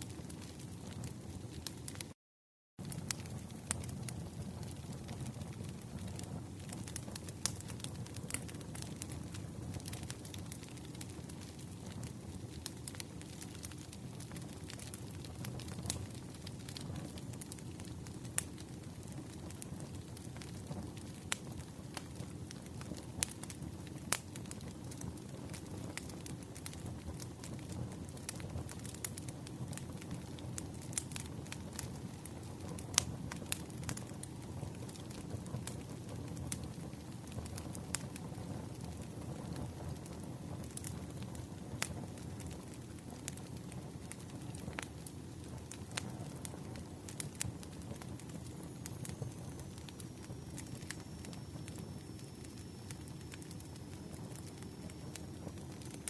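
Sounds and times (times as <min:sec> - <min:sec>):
low rumble of flames: 0:00.0 - 0:02.1, 0:02.8 - 0:56.0
crackles and pops from logs: 0:00.0 - 0:02.2, 0:02.8 - 0:56.0
wood fire burning: 0:00.0 - 0:02.2, 0:02.8 - 0:56.0.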